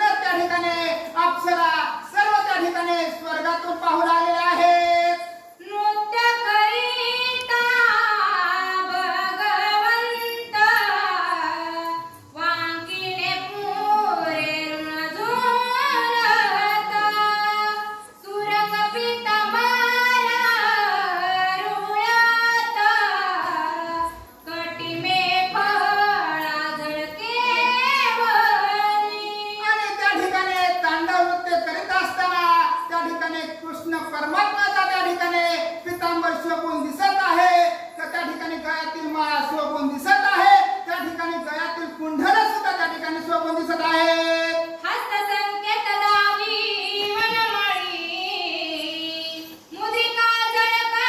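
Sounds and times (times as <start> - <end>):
woman singing devotional verses: 0.0 - 51.0.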